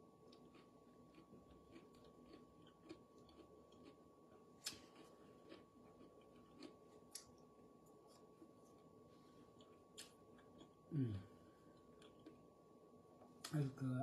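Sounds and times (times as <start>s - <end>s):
person chewing food: 0.2s - 10.8s, 11.7s - 12.4s.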